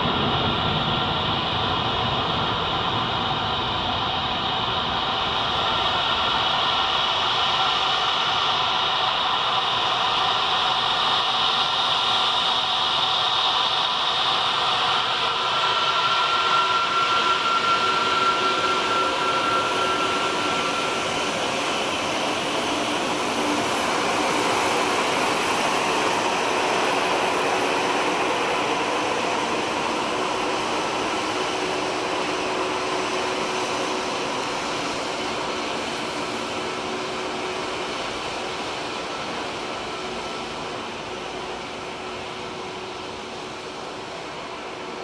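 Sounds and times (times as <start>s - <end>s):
high engine whine: 0.0s - 45.0s
jet engines roaring: 0.0s - 45.0s.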